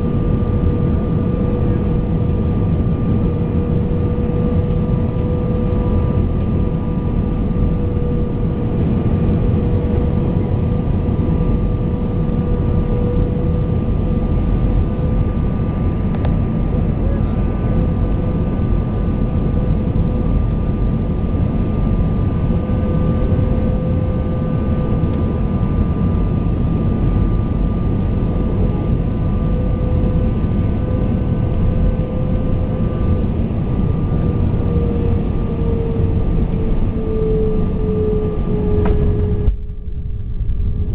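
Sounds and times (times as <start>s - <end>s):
jet engine drone in cabin: 0.0s - 40.9s
steady whining tones: 0.0s - 40.9s.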